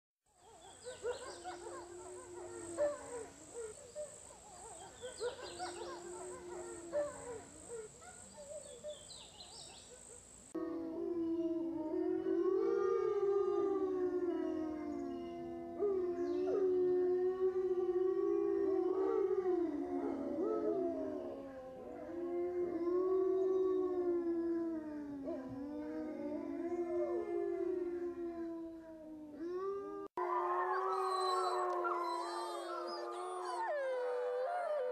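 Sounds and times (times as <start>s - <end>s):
wolves howling and yipping: 0.4s - 9.1s, 10.0s - 34.9s.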